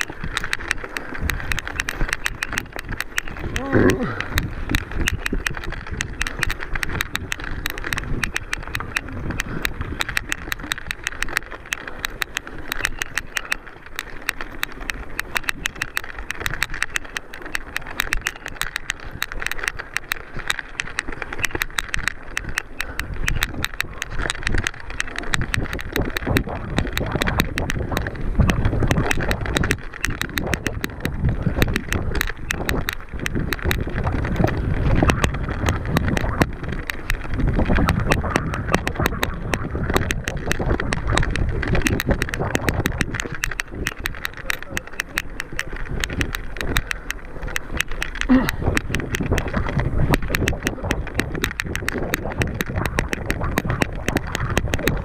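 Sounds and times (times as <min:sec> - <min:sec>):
bike clattering and rattling: 0:00.0 - 0:55.0
wind buffeting microphone: 0:00.0 - 0:55.0.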